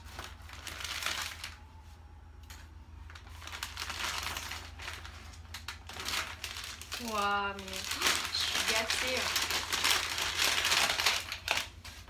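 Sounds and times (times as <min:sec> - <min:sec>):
wrapping paper crinkling: 0:00.0 - 0:02.0, 0:03.0 - 0:12.0.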